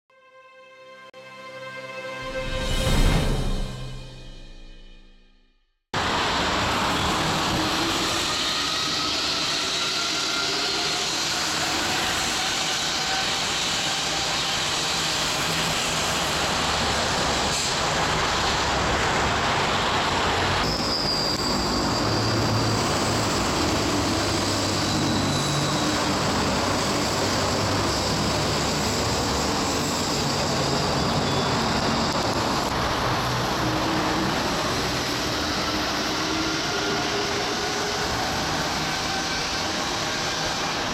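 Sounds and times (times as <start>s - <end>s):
high squeal: 6.0s - 40.9s
train running rumble: 6.0s - 40.9s.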